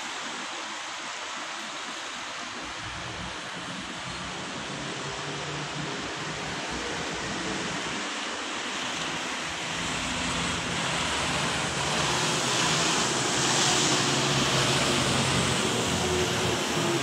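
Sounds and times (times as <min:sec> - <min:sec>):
highway traffic hiss: 0:00.0 - 0:17.0.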